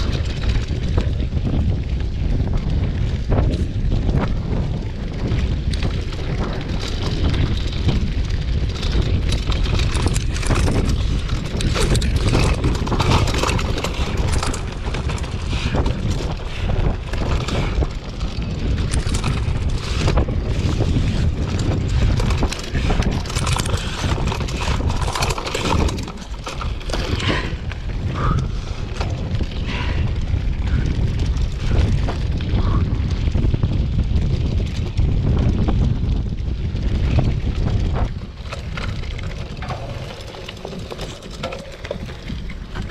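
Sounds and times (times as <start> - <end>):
bike rattling over rough ground: 0.0 - 42.9
wind buffeting microphone: 0.0 - 42.9.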